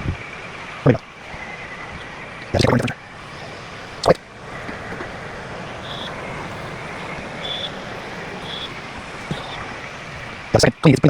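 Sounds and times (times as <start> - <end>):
high chirps: 0.0 - 10.8
robot vacuum whirring: 0.0 - 10.9.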